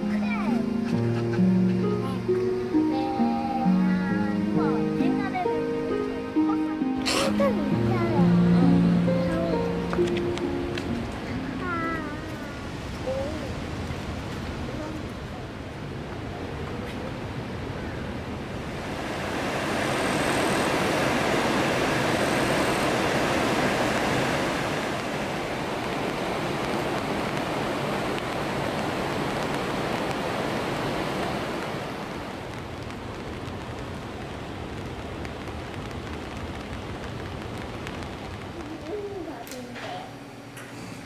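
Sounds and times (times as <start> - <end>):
rushing falling water: 0.0 - 39.4.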